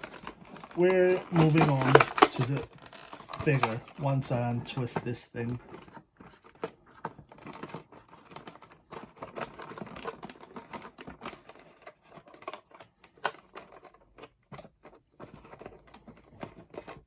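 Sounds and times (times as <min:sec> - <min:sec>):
plastic packaging clicks and crinkles: 0:00.0 - 0:17.0.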